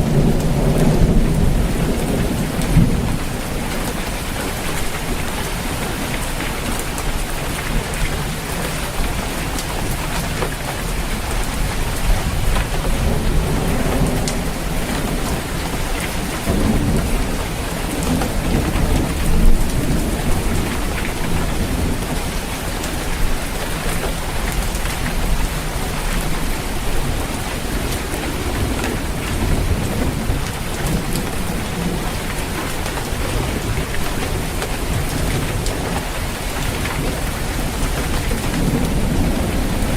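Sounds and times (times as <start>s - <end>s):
low rumble of thunder: 0.0s - 6.8s, 10.9s - 39.9s
heavy rain drumming on a roof: 0.0s - 39.9s.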